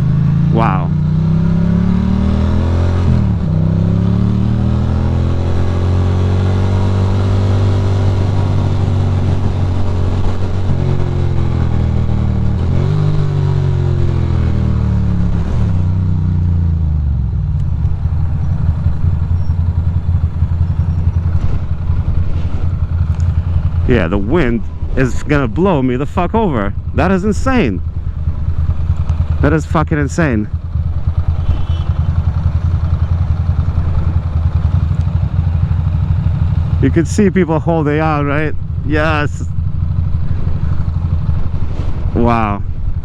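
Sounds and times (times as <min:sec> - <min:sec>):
motorcycle engine: 0:00.0 - 0:43.0.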